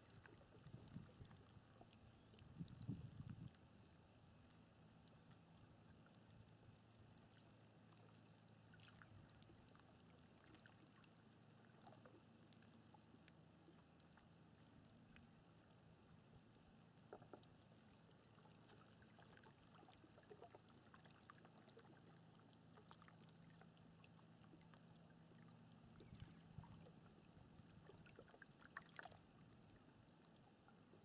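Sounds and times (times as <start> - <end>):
water lapping and dripping: 0.0 - 31.0.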